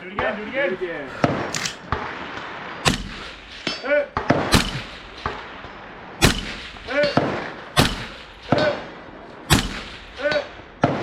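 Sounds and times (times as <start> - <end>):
rifle shots: 1.2 - 11.0.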